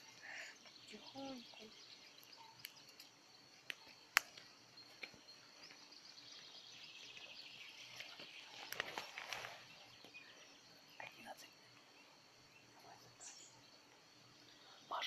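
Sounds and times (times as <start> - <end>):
campfire crackling: 0.0 - 14.9.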